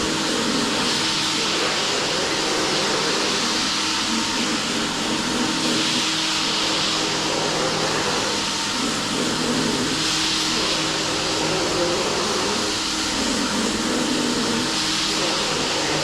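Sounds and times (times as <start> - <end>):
machine whirring hiss and hum: 0.0 - 16.0.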